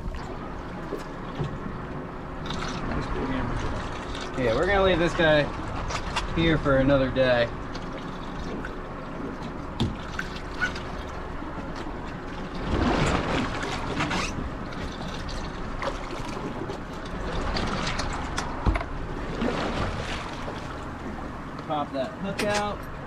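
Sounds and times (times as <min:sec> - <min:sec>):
water splashing against boat: 0:00.0 - 0:23.0.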